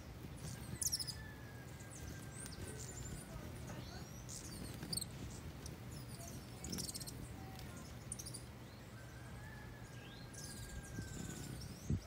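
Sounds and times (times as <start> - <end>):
hummingbirds chipping and twittering: 0.0 - 12.0.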